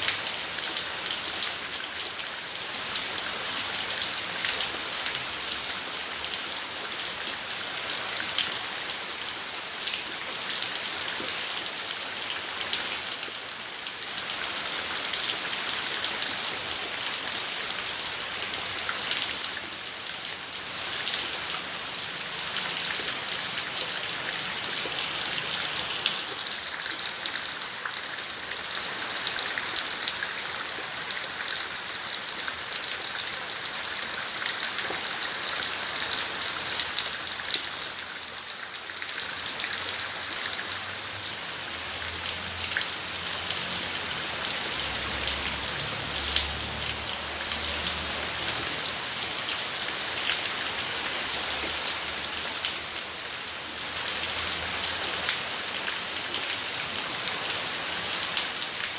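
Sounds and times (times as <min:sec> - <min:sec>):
rain falling: 0:00.0 - 0:58.9
raindrops ticking on surfaces: 0:00.0 - 0:58.9.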